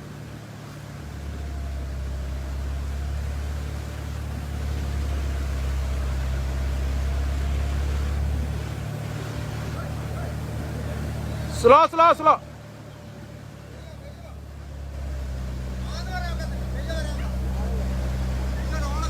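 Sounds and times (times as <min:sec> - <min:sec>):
suv engine running: 0:00.0 - 0:19.0.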